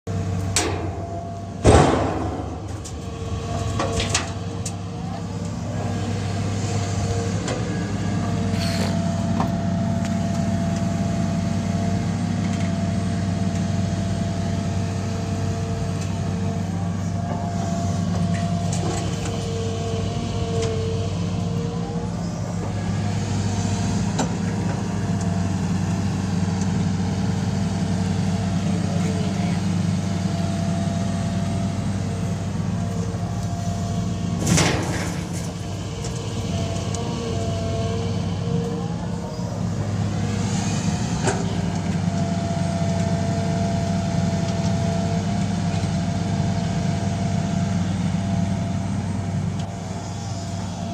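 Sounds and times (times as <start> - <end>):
diesel engine droning: 0.1 - 50.9.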